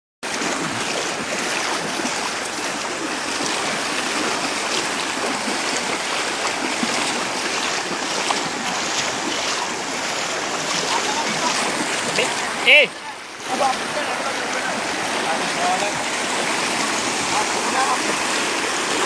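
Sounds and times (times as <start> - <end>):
floodwater rushing: 0.2 - 19.0
legs wading through water: 0.2 - 19.0.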